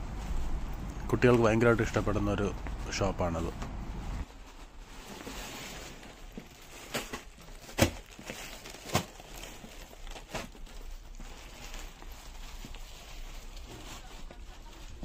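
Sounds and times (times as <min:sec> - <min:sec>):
shop background noise: 0:00.0 - 0:15.0.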